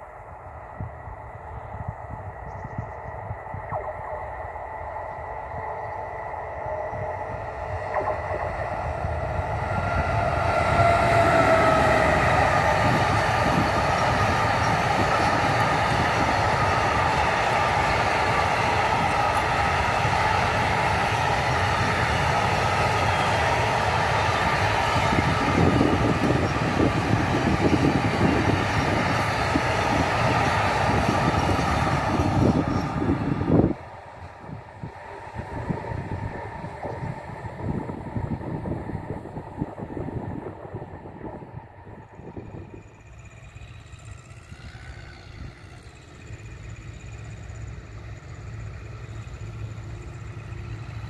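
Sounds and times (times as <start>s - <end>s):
electric locomotive whine: 0.0s - 51.0s
wagons rumbling on rails: 0.0s - 51.0s.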